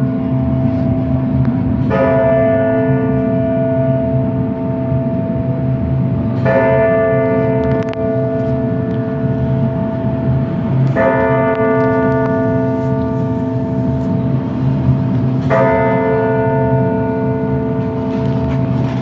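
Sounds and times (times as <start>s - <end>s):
clock tower bell striking: 0.0s - 19.0s.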